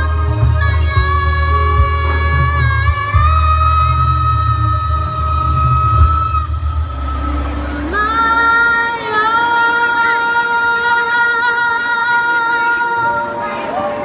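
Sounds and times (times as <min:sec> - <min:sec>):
girl singing into microphone: 0:00.0 - 0:06.4, 0:07.8 - 0:13.9
backing track: 0:00.0 - 0:14.0.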